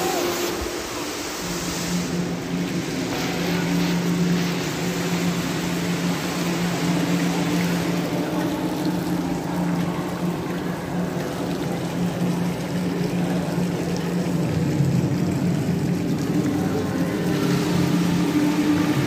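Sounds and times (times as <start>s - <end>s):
fountain jets splashing into pool: 0.0s - 19.0s
low steady hum: 0.0s - 19.0s.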